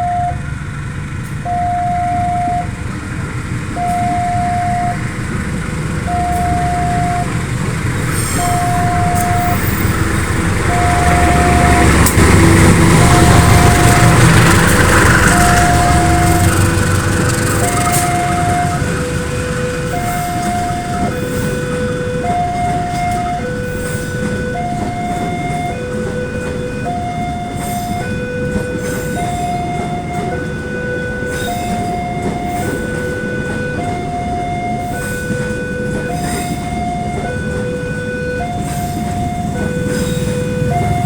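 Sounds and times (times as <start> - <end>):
level crossing alarm two-tone: 0.0 - 0.5, 1.4 - 2.8, 3.8 - 5.1, 6.1 - 7.5, 8.2 - 41.0
train rumbling slowly: 0.0 - 41.0.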